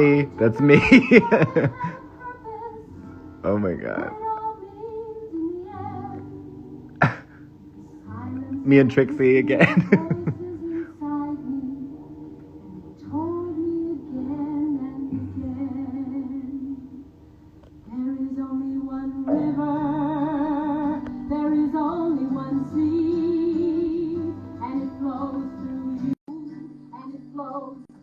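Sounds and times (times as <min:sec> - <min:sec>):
acoustic guitar: 0:00.0 - 0:28.0
woman singing folk song: 0:00.0 - 0:28.0.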